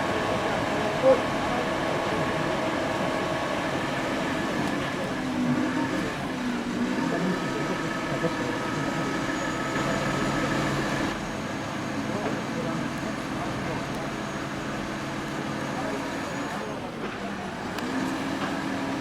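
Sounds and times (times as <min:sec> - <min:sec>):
faint voices: 0:00.0 - 0:19.0
steady mechanical drone: 0:00.0 - 0:19.0.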